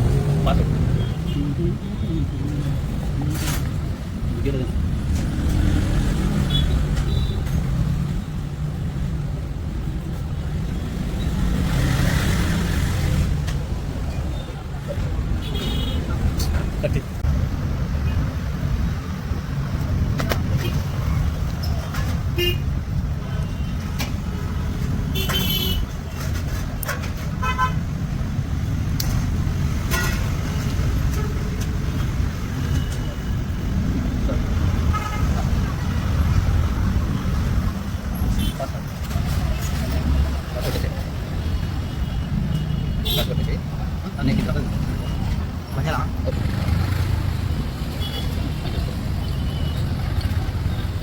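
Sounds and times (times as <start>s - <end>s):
road traffic: 0.0s - 51.0s
vehicle engine rumbling: 0.0s - 51.0s.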